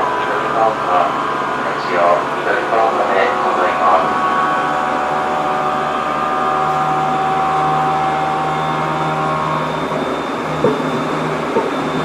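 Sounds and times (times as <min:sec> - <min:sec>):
motor whine: 0:00.0 - 0:12.0
subway train rolling noise: 0:00.0 - 0:12.0.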